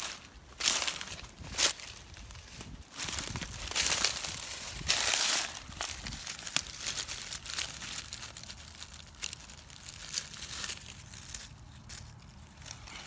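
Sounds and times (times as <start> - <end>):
dry leaves and twigs crackling: 0.0 - 13.0.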